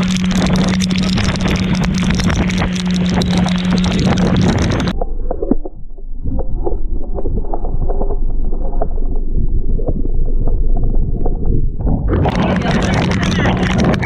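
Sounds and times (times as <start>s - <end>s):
sea water splashing against hull: 0.0s - 14.0s.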